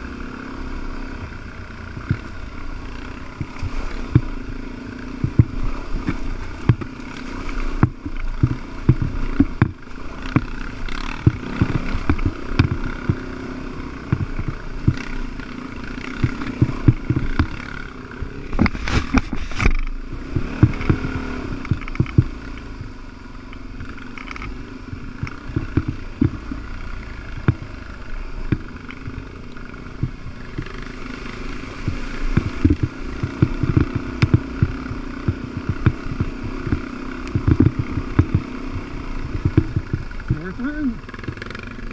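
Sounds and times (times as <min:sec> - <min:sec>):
bike rattling over ruts: 0:00.0 - 0:41.9
dirt bike engine running: 0:00.0 - 0:41.9.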